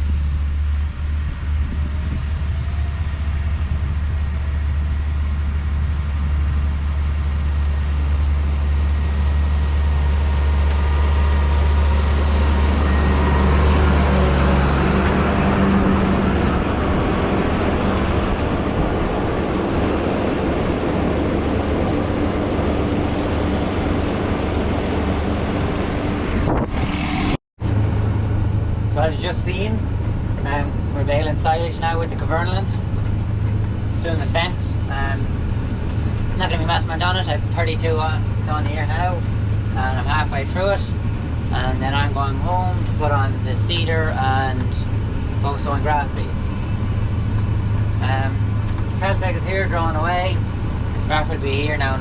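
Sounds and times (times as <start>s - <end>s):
rough noisy machine sound: 0.0s - 52.0s
tractor engine droning: 0.0s - 52.0s.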